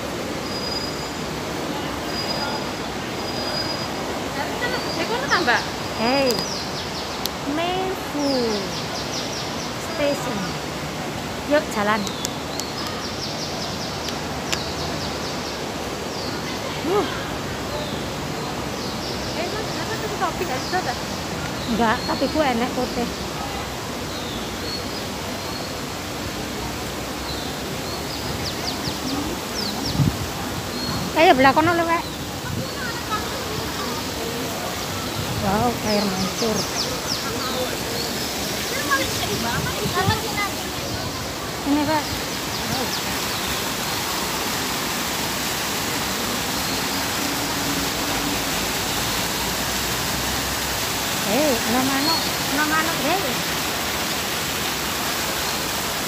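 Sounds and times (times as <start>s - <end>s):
outdoor background hiss: 0.0s - 56.0s
fountain jets splashing into pool: 1.2s - 56.0s.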